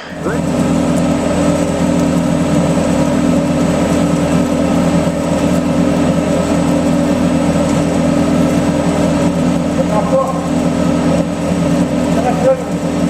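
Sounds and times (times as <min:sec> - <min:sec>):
extruder machine drone: 0:00.0 - 0:13.0.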